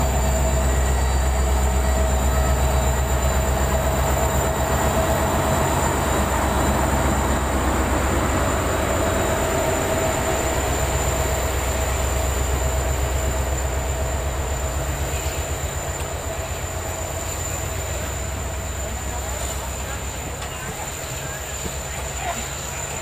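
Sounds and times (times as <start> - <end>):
train coaches rumbling over rail joints: 0.0 - 23.0.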